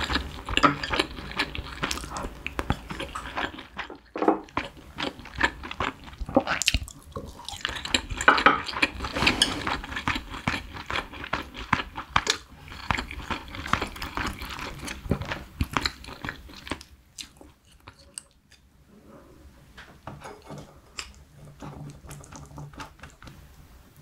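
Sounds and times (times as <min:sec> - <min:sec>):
close chewing with wet mouth sounds: 0:00.0 - 0:18.7, 0:21.0 - 0:23.4.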